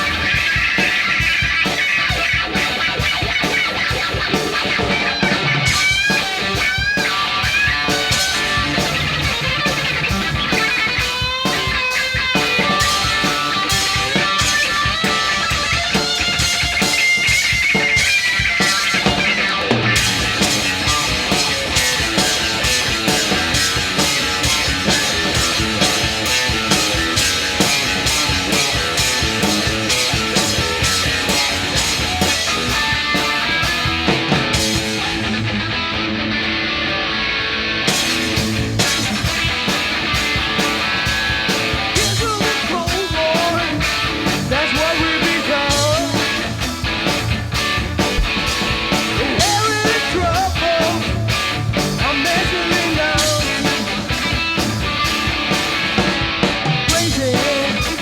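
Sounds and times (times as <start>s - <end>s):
electric guitar bending notes: 0.0s - 42.2s, 45.1s - 58.0s
hard rock band playing: 0.0s - 58.0s.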